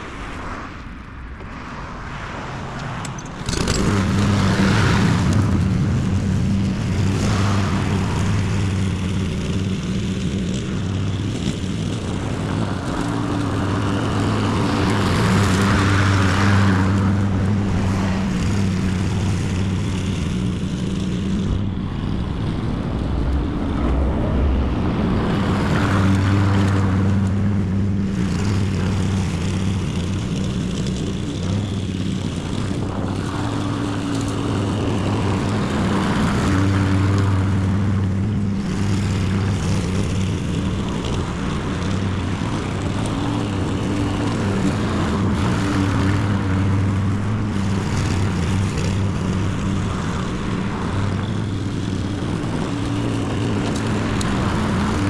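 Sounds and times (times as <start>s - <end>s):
lawn mower engine running: 1.5s - 55.0s.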